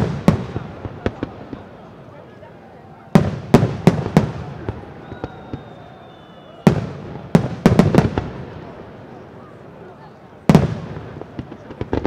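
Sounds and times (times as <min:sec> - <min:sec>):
light fireworks pops: 0:00.0 - 0:02.3, 0:03.1 - 0:09.2, 0:10.4 - 0:12.0
fireworks bangs echoing: 0:00.0 - 0:02.4, 0:03.0 - 0:12.0.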